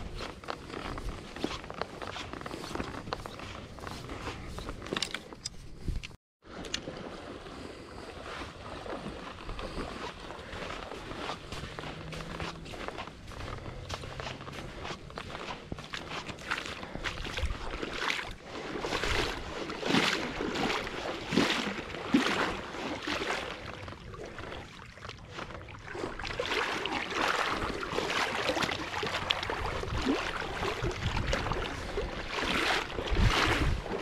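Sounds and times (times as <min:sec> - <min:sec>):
footsteps on wet sand: 0:00.0 - 0:06.1, 0:06.8 - 0:34.0.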